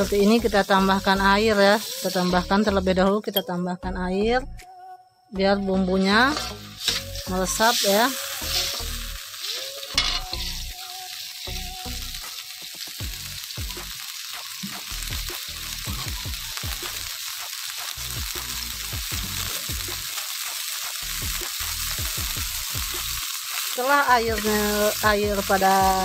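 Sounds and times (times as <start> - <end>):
wok sizzling and bubbling: 0.0 - 3.1, 6.0 - 26.0.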